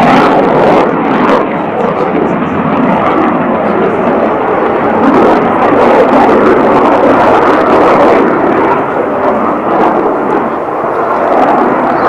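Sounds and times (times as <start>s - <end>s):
fighter jet rushing noise: 0.0s - 12.0s.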